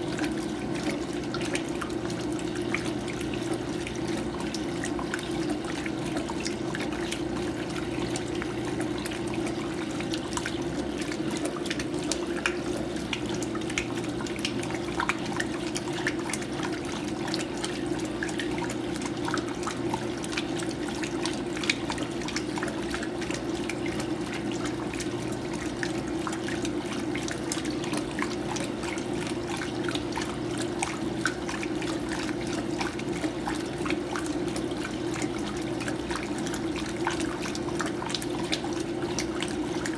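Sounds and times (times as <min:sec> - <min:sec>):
washing machine water splashing: 0:00.0 - 0:39.9.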